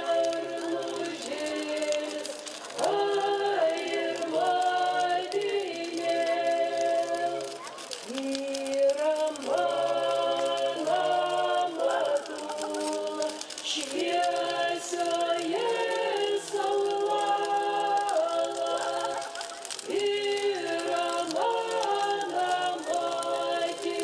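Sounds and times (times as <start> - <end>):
unaccompanied choir singing: 0.0 - 7.6, 8.2 - 24.0.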